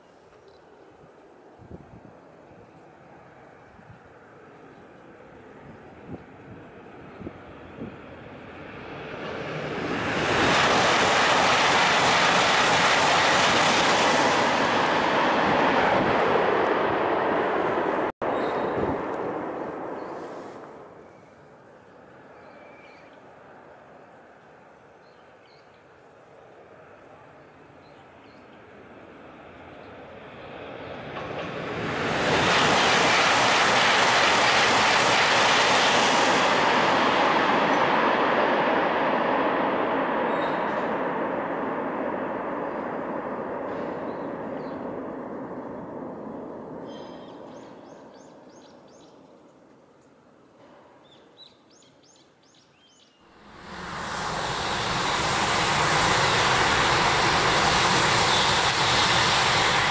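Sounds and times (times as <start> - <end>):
high-speed train passing: 0.0 - 50.8, 53.2 - 59.9.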